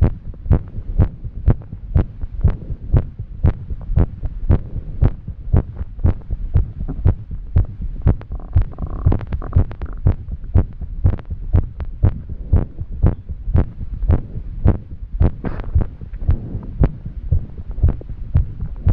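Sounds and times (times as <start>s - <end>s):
woman's heart beating fast: 0.0s - 18.9s.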